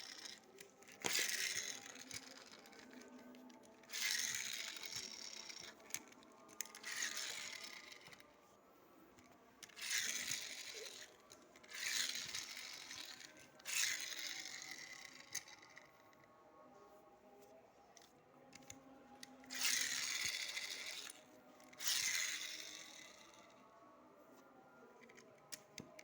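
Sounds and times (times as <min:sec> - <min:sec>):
small clicks: 0:00.0 - 0:08.3, 0:09.1 - 0:16.3, 0:17.9 - 0:23.6, 0:25.0 - 0:26.0
toy motorcycle whirring bursts: 0:00.0 - 0:08.4, 0:09.2 - 0:16.1, 0:18.0 - 0:23.6.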